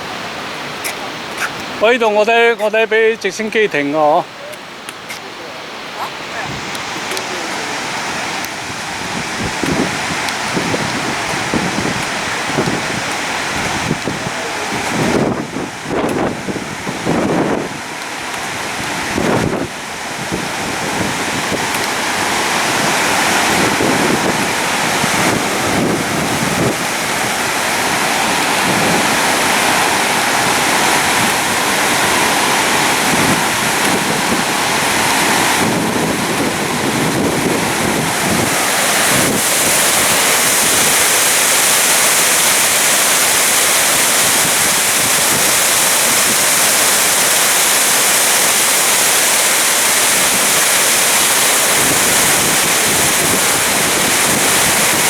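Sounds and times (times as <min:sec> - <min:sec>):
rushing wind: 0:00.0 - 0:55.0
surf: 0:00.0 - 0:55.0
wind buffeting microphone: 0:05.9 - 0:55.0.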